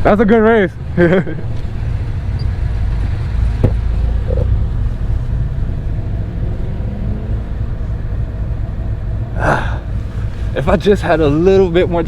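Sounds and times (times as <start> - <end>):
car engine running low: 1.0 - 12.0.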